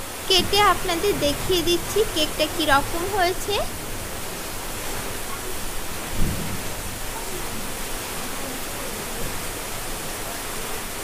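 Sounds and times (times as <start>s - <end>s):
background recording hiss: 0.0s - 11.0s.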